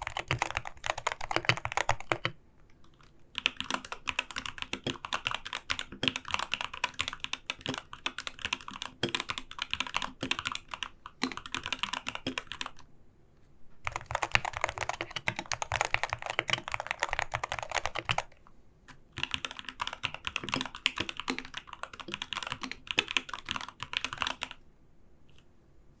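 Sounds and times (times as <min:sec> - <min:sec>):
keyboard typing: 0:00.0 - 0:12.8, 0:13.8 - 0:18.4, 0:19.2 - 0:24.6.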